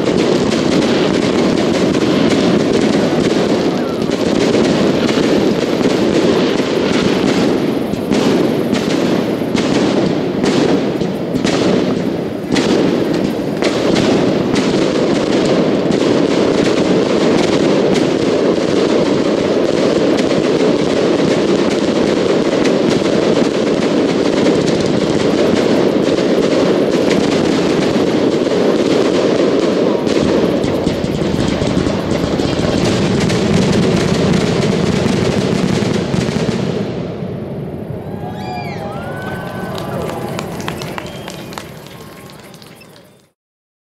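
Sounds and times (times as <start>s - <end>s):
fireworks bursting rumble: 0.0s - 43.4s
fireworks cracks and crackle: 0.0s - 43.4s.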